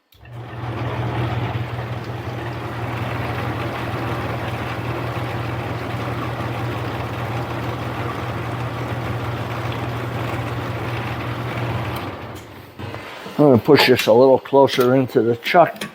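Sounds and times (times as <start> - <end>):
metal lathe motor hum: 0.0 - 12.9.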